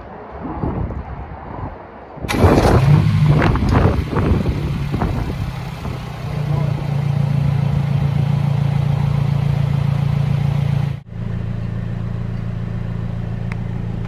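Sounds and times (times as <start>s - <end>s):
car engine idling: 2.3s - 14.0s.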